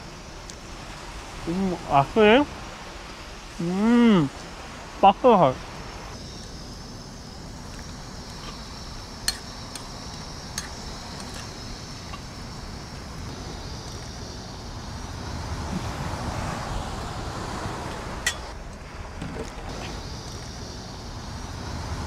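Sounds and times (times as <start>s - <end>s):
faint steady high hiss: 0.0s - 22.0s
wind rushing over microphone: 0.0s - 22.0s.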